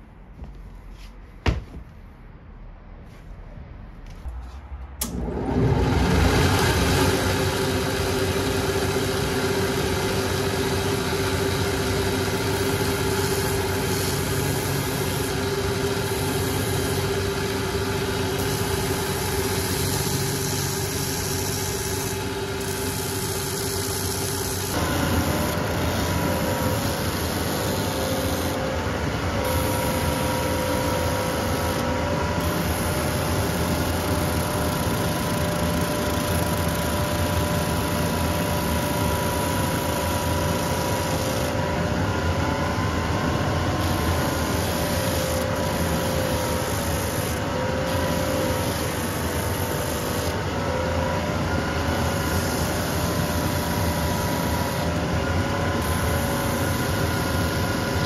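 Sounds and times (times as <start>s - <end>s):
sanding wheel running: 5.0s - 58.0s
sanding belt running: 5.1s - 58.0s.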